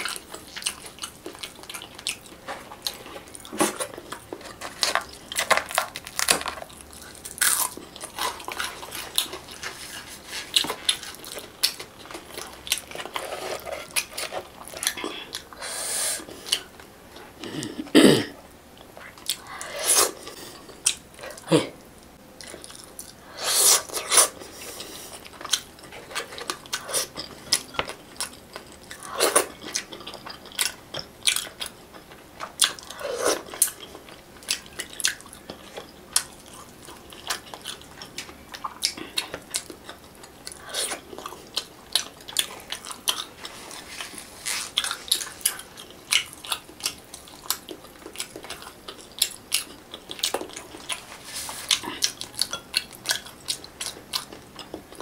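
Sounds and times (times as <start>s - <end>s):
chewing and crunching: 0.0s - 15.6s, 18.7s - 55.0s.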